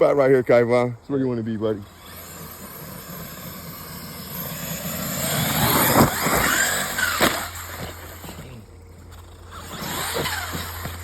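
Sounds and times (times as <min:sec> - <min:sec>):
vehicle engine revving: 0:01.8 - 0:11.0.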